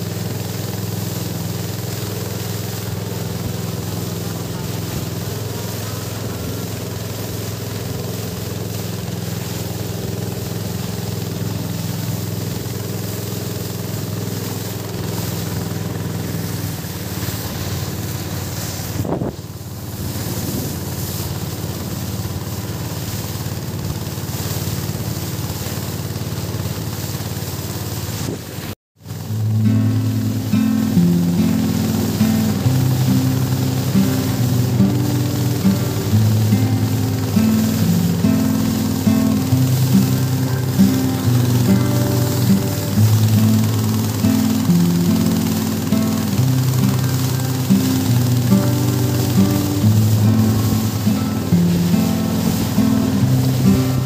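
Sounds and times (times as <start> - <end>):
small boat engine running: 0.0 - 54.0
water rushing past: 0.0 - 54.0.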